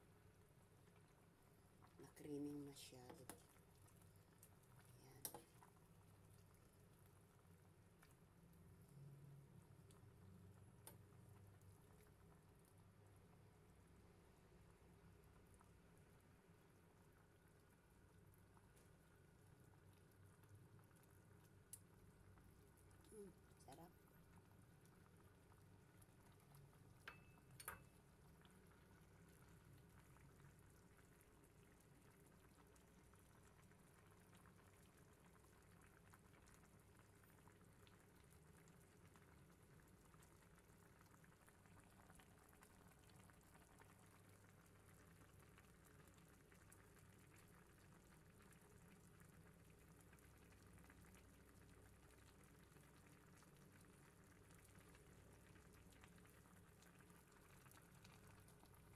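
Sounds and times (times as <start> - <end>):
pot of broth bubbling: 0.0 - 58.9.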